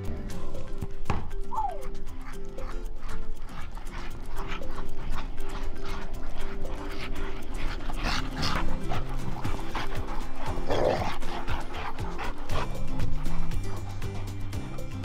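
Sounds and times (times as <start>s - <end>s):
background music: 0.0s - 15.0s
dogs making breathy sounds: 0.0s - 15.0s.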